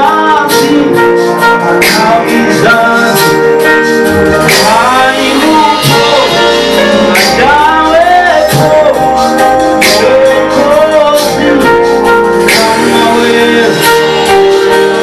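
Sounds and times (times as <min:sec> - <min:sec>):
group of voices singing: 0:00.0 - 0:15.0
instrumental backing of sustained chords: 0:00.0 - 0:15.0
man singing into a microphone: 0:00.0 - 0:15.0.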